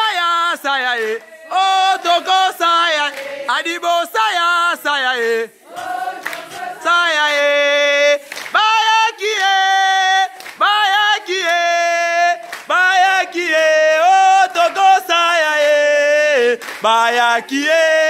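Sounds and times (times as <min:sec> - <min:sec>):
voices singing long held notes: 0:00.0 - 0:18.0.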